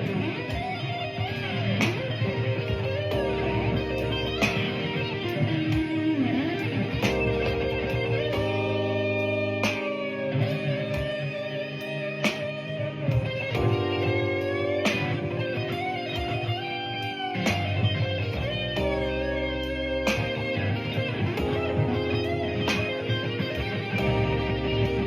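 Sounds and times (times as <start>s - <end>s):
electric guitar playing slow blues: 0.0s - 25.0s.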